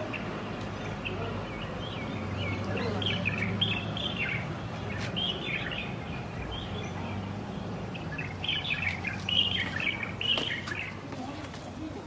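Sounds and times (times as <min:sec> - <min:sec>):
birds warbling chirps: 0:00.0 - 0:11.1.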